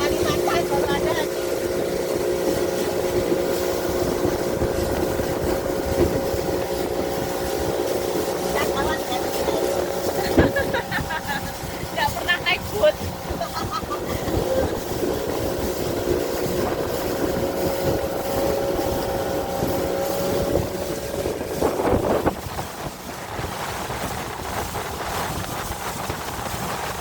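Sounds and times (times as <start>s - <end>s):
motorboat engine whining: 0.0s - 27.0s
water and wind noise: 0.0s - 27.0s.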